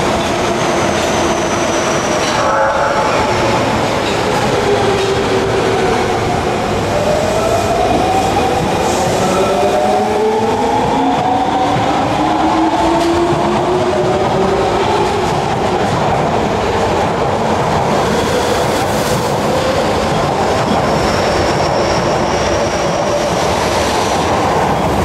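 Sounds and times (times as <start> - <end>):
train rumble and wheel clatter: 0.0 - 25.0.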